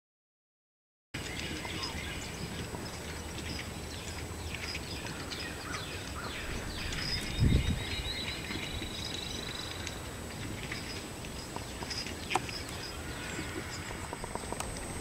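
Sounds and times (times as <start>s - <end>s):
songbirds singing: 1.2s - 15.0s
high bird trill: 1.3s - 10.1s, 10.7s - 14.6s.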